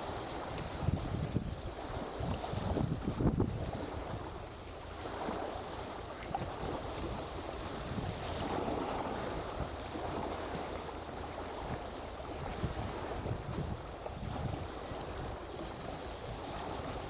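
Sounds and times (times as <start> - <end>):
sea surf: 0.0 - 17.0
wind noise on microphone: 0.0 - 17.0.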